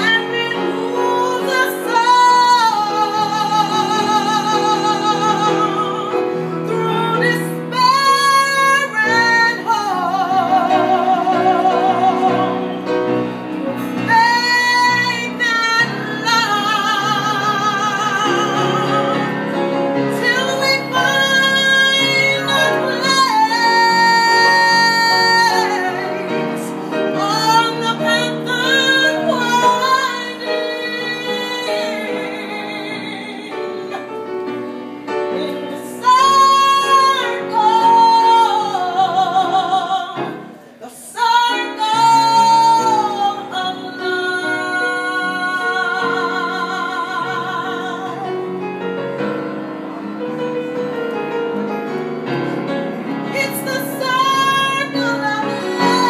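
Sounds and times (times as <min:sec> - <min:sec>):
woman singing: 0:00.0 - 0:49.0, 0:53.2 - 0:56.0
instrumental accompaniment: 0:00.0 - 0:56.0.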